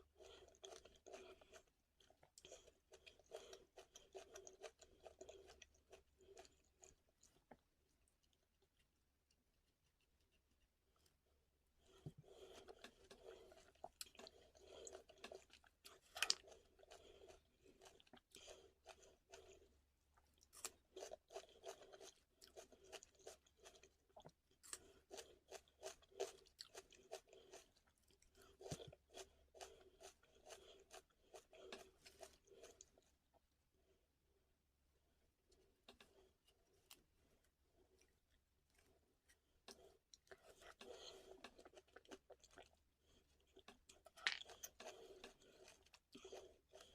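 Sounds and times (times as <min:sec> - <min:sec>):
person chewing crunchy food: 0:00.0 - 0:09.0, 0:11.8 - 0:33.5, 0:35.5 - 0:46.9.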